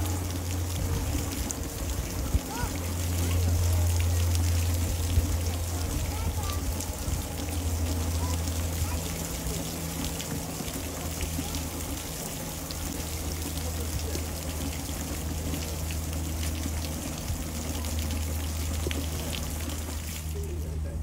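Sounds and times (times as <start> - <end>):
water dripping: 0.0 - 20.8
hose water spraying: 0.0 - 21.0
steady low hum: 0.0 - 21.0.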